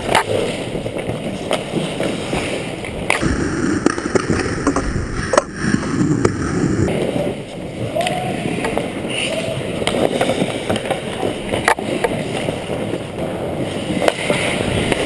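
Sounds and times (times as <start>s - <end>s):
skates scraping on ice: 0.0s - 15.0s
stick and puck clacks: 0.0s - 15.0s.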